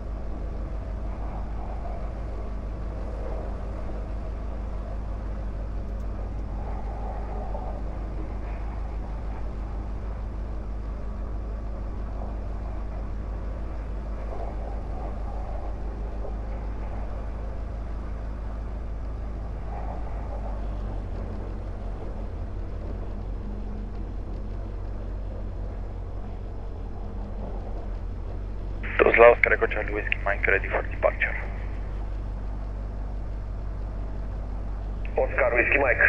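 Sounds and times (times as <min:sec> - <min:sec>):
light aircraft engine and propeller: 0:00.0 - 0:36.0.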